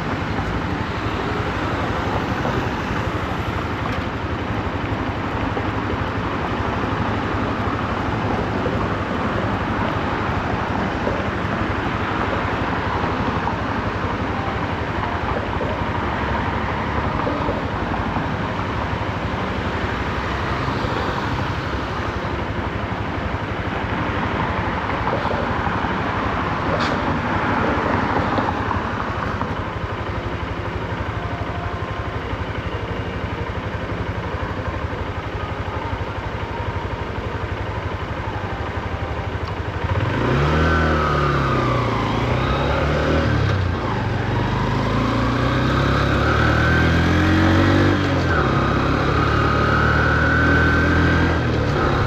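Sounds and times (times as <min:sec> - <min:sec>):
motorcycle engine: 0:00.0 - 0:52.0
traffic noise: 0:00.0 - 0:52.0.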